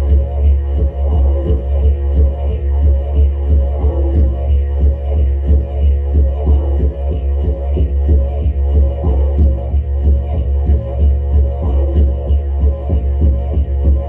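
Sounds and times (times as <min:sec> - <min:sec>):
deep pulsing instrumental drone: 0:00.0 - 0:14.0.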